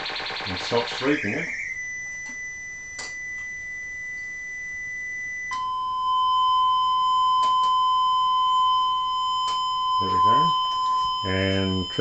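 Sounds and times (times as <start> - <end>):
square-wave test tone: 0.0 - 12.0.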